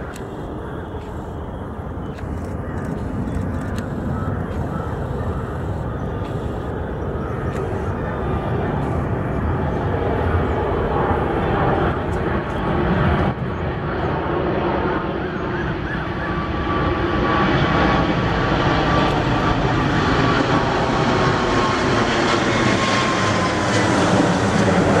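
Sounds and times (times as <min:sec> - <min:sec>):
airliner jet engines: 0:00.0 - 0:25.0.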